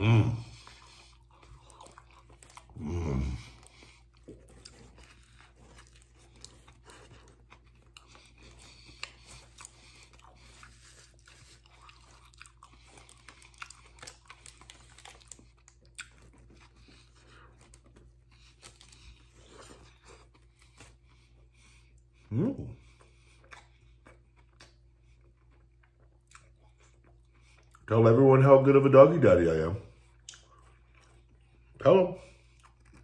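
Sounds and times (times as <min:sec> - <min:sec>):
person chewing a sandwich: 0:00.0 - 0:28.0, 0:29.9 - 0:33.0.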